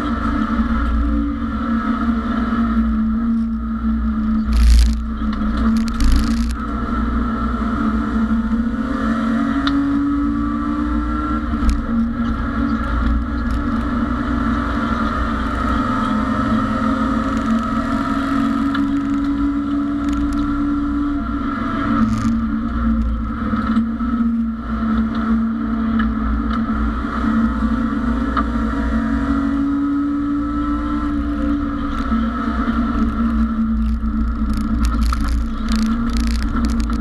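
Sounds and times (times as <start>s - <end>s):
race car engine at high revs: 0.0s - 37.0s
road and transmission noise: 0.0s - 37.0s.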